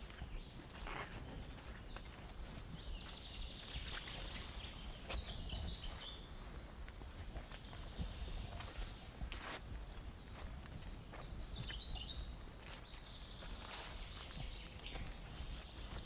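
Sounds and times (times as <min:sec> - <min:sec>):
footsteps on wet path: 0:00.0 - 0:16.0
small bird singing: 0:00.0 - 0:16.0.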